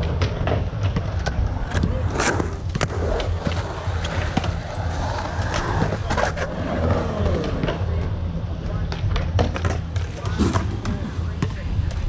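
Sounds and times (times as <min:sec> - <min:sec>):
skateboard wheels rumbling on concrete: 0:00.0 - 0:12.0.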